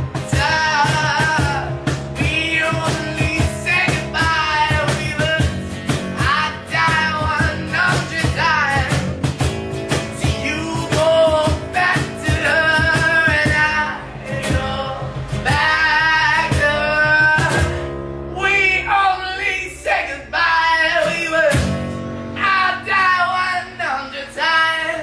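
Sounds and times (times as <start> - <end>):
song with guitar and beat: 0.0 - 19.0, 20.7 - 24.0.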